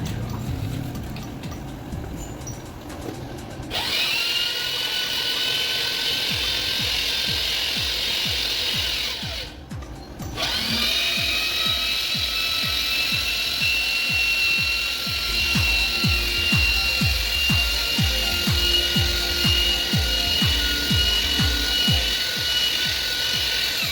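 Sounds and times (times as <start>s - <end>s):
background music with kick drum: 0.0s - 23.9s
power tool motor whining: 3.6s - 23.9s.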